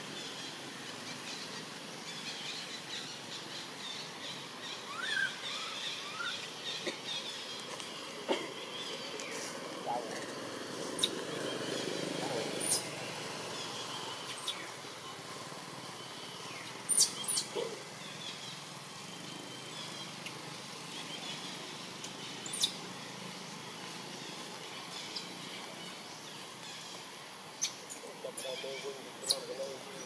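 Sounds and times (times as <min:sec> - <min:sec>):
background hiss: 0:00.0 - 0:30.0.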